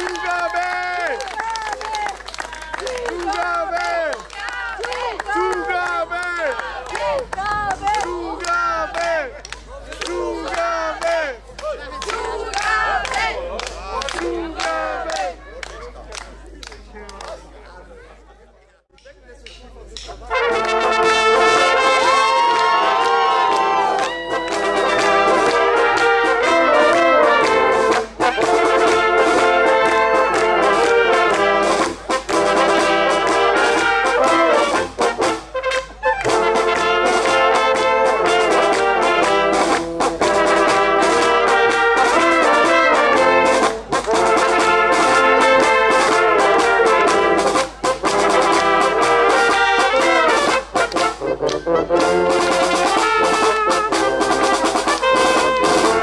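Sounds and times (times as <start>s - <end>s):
brass band music: 2.7s - 9.3s, 9.9s - 15.4s, 20.0s - 56.0s.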